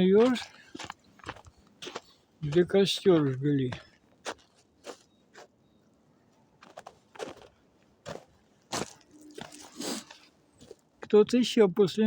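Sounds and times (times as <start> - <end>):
footsteps crunching on forest floor: 0.0 - 5.6, 6.3 - 11.2.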